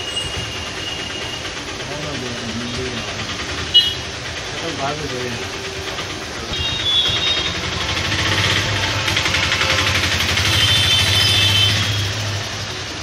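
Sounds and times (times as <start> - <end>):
engine running with rapid beat: 0.0 - 13.0.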